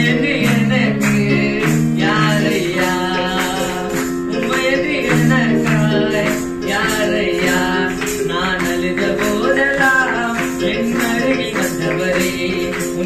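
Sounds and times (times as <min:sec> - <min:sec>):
electronic keyboard chords: 0:00.0 - 0:13.0
man singing: 0:00.0 - 0:13.0
steady beat: 0:00.0 - 0:13.0.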